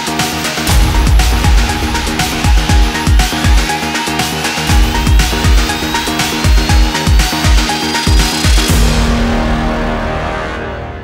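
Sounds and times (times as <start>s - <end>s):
electronic music with kick drum: 0.0s - 10.4s.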